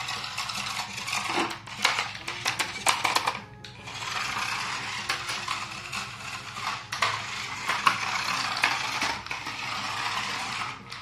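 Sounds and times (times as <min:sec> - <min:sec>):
plastic clattering on tiled floor: 0:00.0 - 0:11.0
toy car motor whirring: 0:00.0 - 0:11.0.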